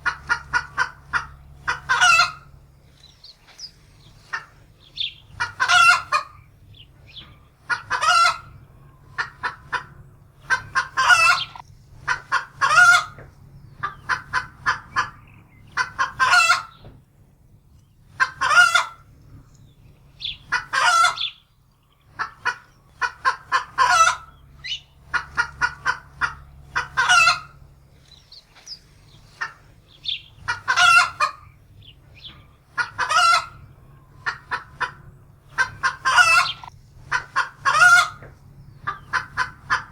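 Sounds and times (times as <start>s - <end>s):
hen cackling and squawking: 0.0s - 16.9s, 18.0s - 19.4s, 20.0s - 39.9s.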